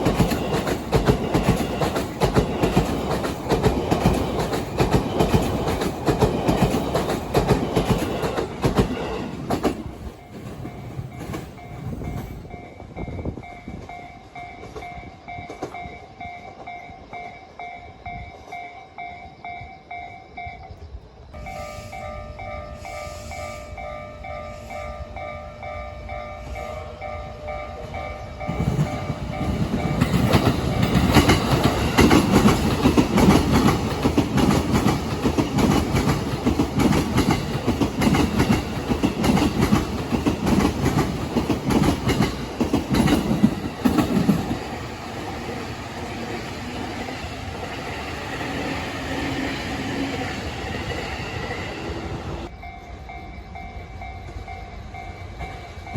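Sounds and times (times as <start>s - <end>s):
train clattering over rail joints: 0.0s - 19.5s, 22.4s - 55.9s.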